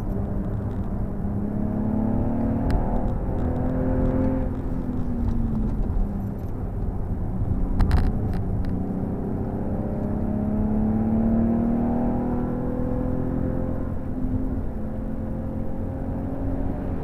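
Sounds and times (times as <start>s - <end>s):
car engine accelerating: 0.0s - 17.0s
tyre and road noise: 0.0s - 17.0s.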